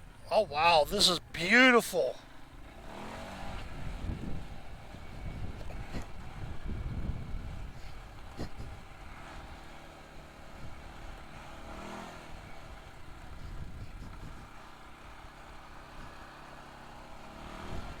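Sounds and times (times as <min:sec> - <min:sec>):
atv engine running: 0:00.0 - 0:18.0
rolling and wind noise: 0:00.0 - 0:18.0.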